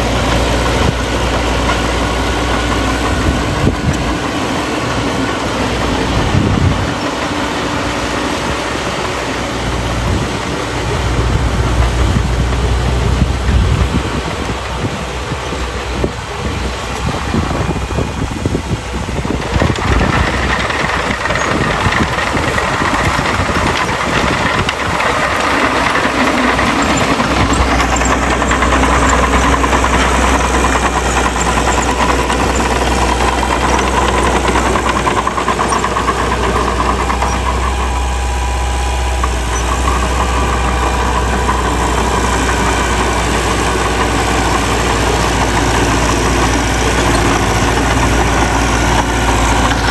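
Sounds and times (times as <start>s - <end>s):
heavy machine diesel engine: 0.0s - 49.9s.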